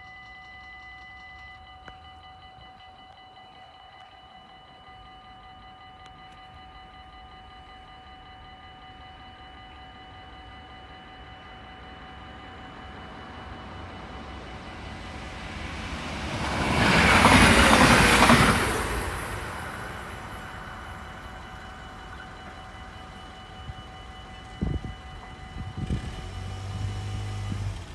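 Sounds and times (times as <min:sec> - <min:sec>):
crossing warning bell: 0:00.0 - 0:27.9
electric train passing: 0:00.0 - 0:27.9.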